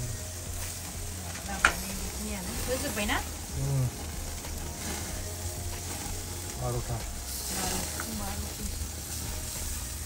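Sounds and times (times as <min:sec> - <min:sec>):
chicken sizzling on a grill: 0:00.0 - 0:10.0.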